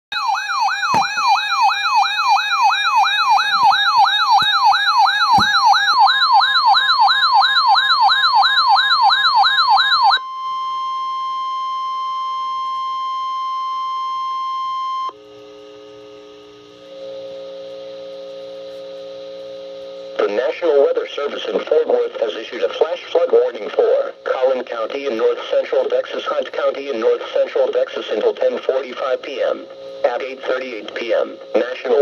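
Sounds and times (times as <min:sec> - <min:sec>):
warbling siren alarm: 0:00.1 - 0:32.0.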